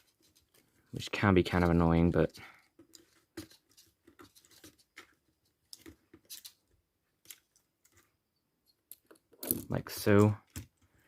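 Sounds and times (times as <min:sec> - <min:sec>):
small clicks and scratches of wires: 0:00.0 - 0:11.0.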